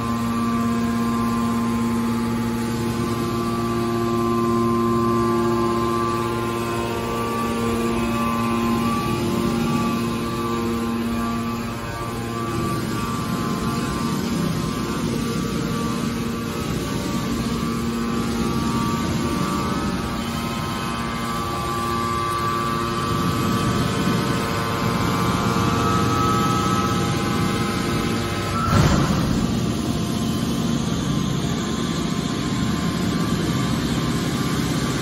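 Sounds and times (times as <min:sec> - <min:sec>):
baler machine hum with whine: 0:00.0 - 0:35.0.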